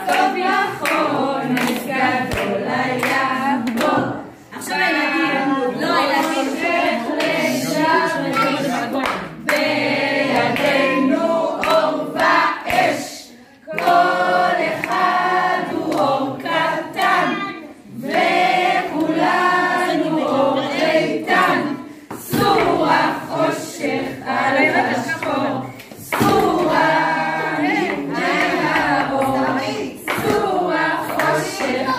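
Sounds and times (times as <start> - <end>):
group singing in unison: 0.0 - 31.9.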